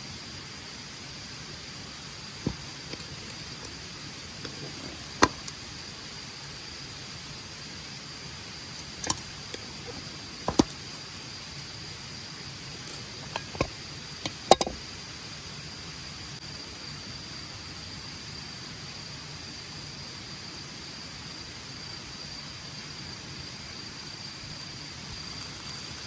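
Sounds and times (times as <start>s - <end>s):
high insect trill: 0.0s - 26.0s
steady hiss: 0.0s - 26.0s.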